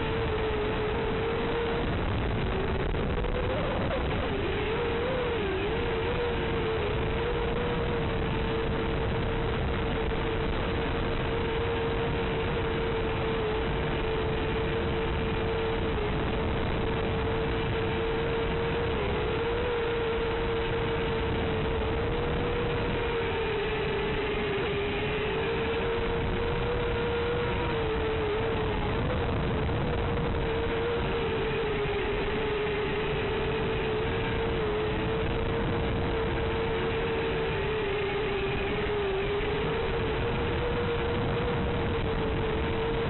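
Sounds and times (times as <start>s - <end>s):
constant hum-like tone: 0.0s - 43.0s
drone motors whining: 0.0s - 43.0s.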